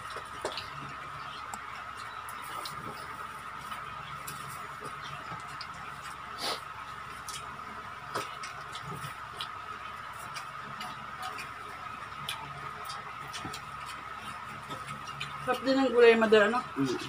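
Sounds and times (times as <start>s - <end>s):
chewing clicks and smacks: 0.0s - 15.9s.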